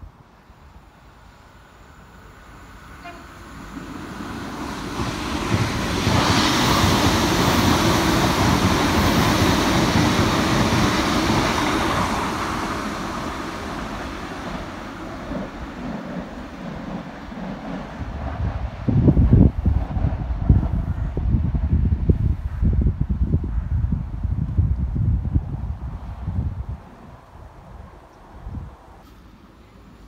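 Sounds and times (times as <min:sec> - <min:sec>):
diesel train passing: 0:00.0 - 0:30.0.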